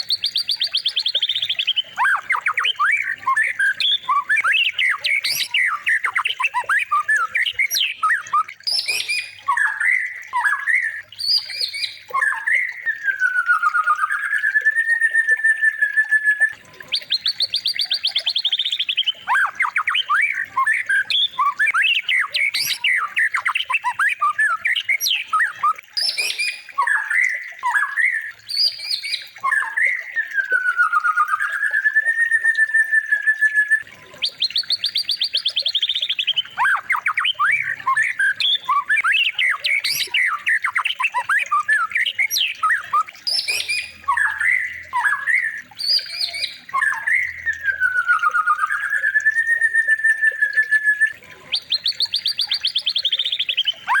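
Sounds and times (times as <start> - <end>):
recorded songbird song: 0.0 - 54.0.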